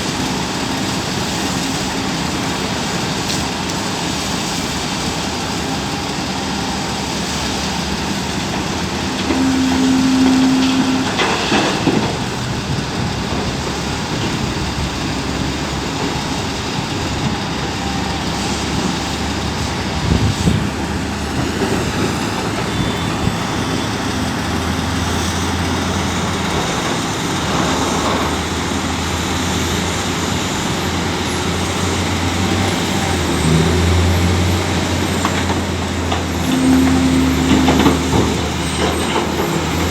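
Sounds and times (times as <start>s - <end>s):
excavator diesel engine and hydraulics: 0.0s - 39.9s.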